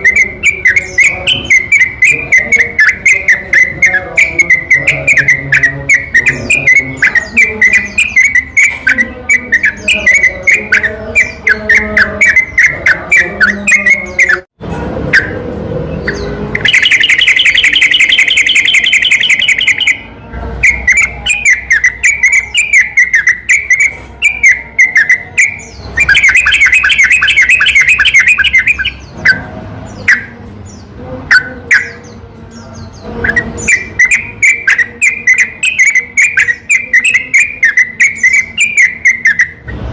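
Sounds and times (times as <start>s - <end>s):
bird chirping: 0.0s - 14.5s, 15.1s - 39.8s
bird trilling: 0.0s - 14.5s, 16.0s - 32.2s, 33.2s - 39.6s.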